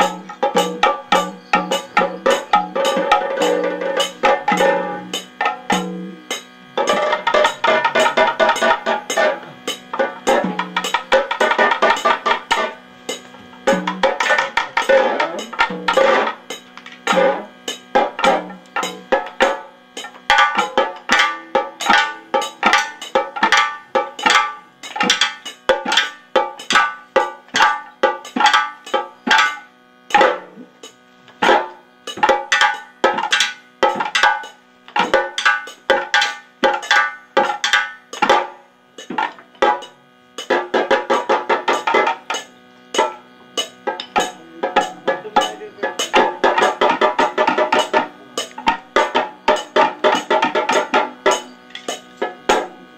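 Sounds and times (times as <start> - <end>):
ringing drum strikes: 0.0 - 52.9.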